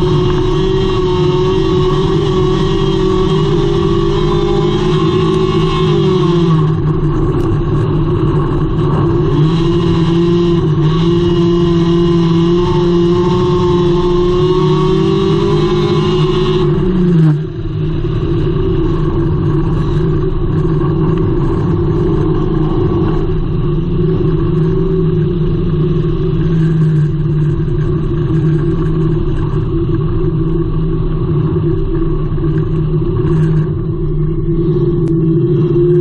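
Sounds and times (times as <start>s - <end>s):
race car engine at high revs: 0.0s - 36.0s.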